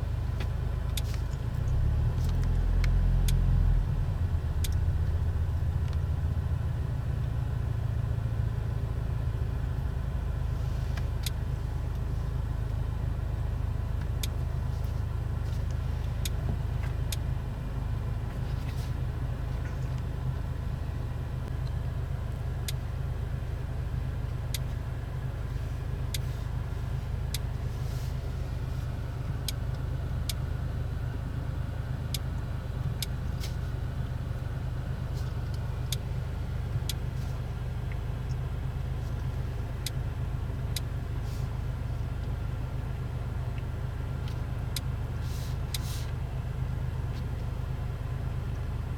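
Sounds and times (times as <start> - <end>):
car engine and road noise rumble: 0.0 - 48.9.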